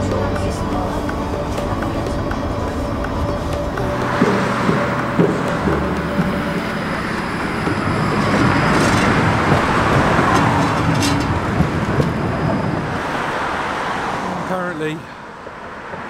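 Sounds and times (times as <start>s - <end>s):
tram wheels on rails: 0.0s - 16.0s.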